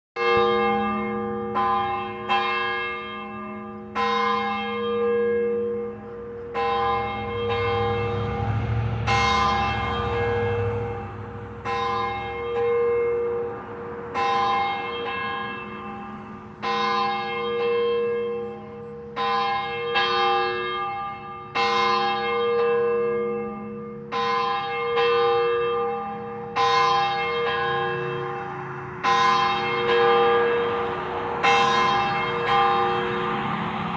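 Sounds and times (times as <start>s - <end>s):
church bell ringing: 0.2s - 33.9s.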